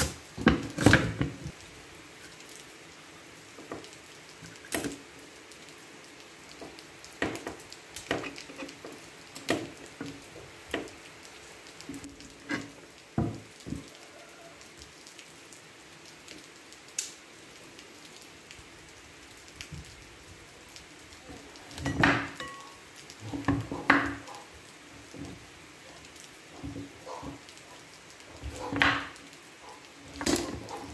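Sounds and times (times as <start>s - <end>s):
rain hiss: 0.0s - 30.9s.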